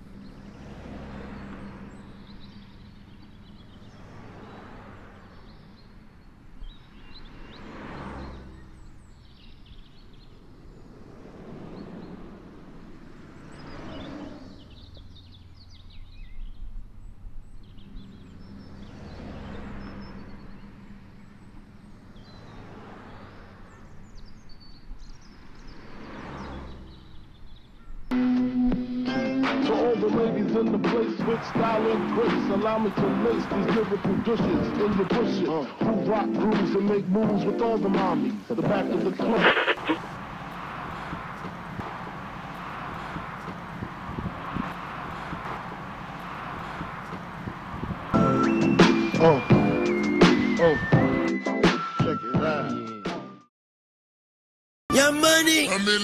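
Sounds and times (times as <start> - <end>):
small birds chirping: 0.0 - 28.1, 31.2 - 51.2
road traffic passing: 0.0 - 52.0, 54.9 - 56.0.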